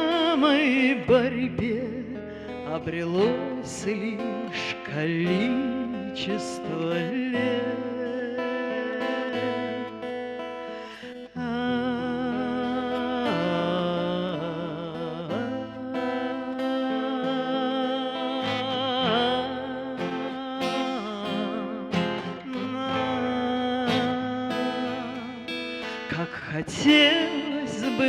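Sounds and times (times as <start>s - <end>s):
acoustic guitar: 0.0s - 28.0s
person singing: 0.0s - 28.0s.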